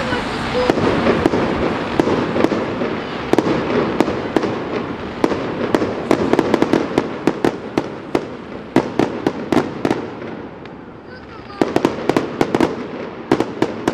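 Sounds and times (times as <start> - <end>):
fireworks crackling and banging: 0.0 - 13.9.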